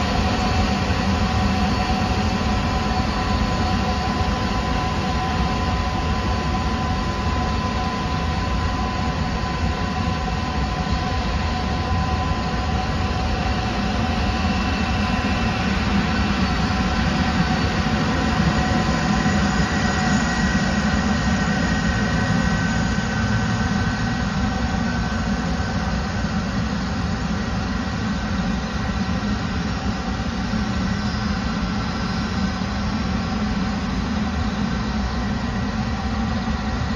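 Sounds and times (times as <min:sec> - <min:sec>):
jet engines rumbling: 0:00.0 - 0:36.9.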